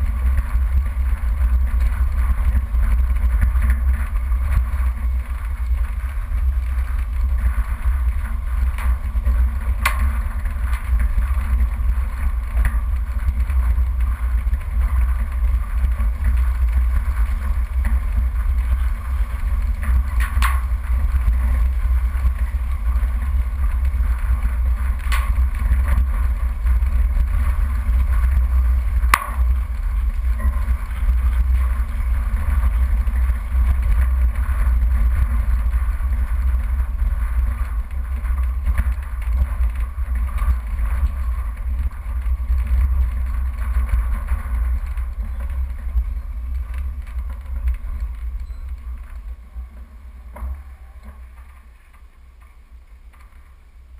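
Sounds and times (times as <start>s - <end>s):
vehicle engine low rumble: 0.0s - 53.9s.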